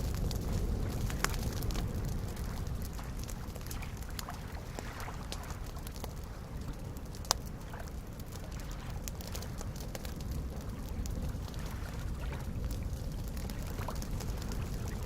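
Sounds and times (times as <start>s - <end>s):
small waves lapping: 0.0s - 15.0s
wood fire crackling: 0.0s - 15.0s.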